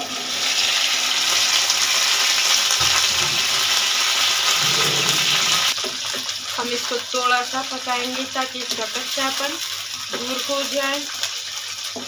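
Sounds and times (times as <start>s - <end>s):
okra sizzling in hot oil: 0.0s - 12.0s.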